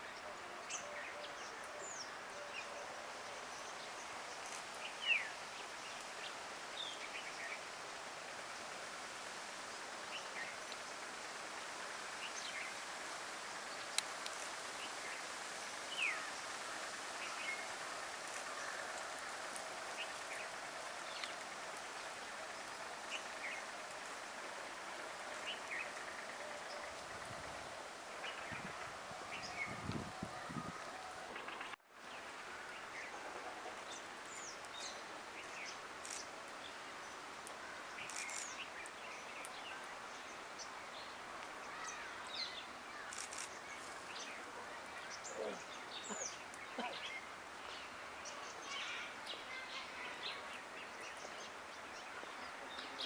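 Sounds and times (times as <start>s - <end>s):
steady outdoor hiss: 0.0s - 53.0s.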